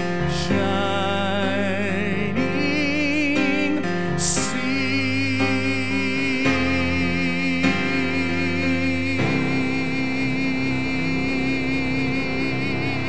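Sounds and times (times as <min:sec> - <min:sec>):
person singing with vibrato: 0:00.0 - 0:13.0
piano chords: 0:00.0 - 0:13.0.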